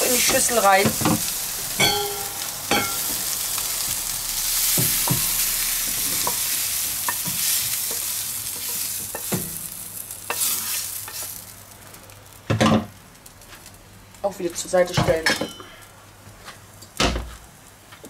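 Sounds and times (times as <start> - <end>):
peppers sizzling: 0.0 - 18.0.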